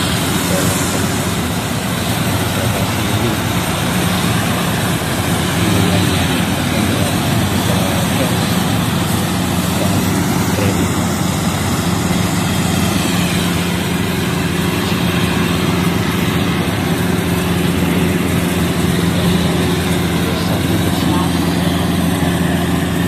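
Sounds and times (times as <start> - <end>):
combine harvester running: 0.0 - 23.0.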